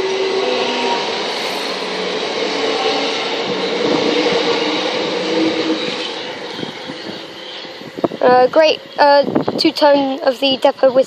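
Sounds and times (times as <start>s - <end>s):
electric train pulling out: 0.0s - 9.6s.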